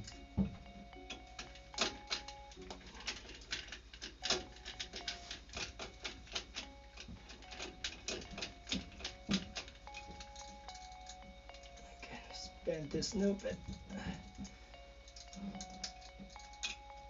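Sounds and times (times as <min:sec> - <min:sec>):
clicks and metallic clinks: 0:00.0 - 0:17.0.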